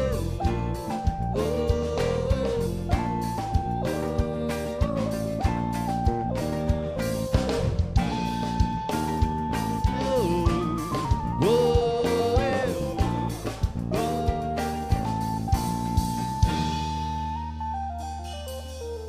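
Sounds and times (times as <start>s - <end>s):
bass guitar: 0.0s - 19.0s
drum kit: 0.0s - 19.0s
guitar: 0.0s - 19.0s.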